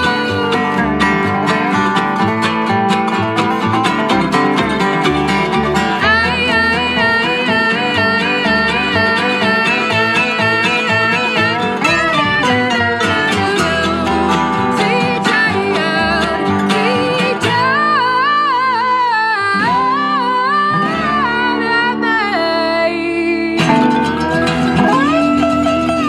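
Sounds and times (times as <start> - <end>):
acoustic guitar: 0.0 - 26.0
person singing: 0.0 - 26.0.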